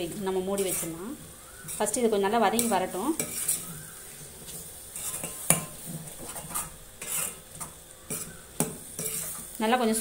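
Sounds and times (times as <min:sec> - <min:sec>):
meat sizzling: 0:00.0 - 0:10.0
spatula scraping a pan: 0:00.0 - 0:10.0.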